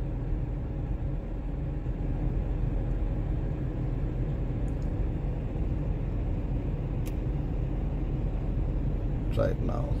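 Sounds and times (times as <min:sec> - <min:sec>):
low rumble inside car cabin: 0:00.0 - 0:10.0.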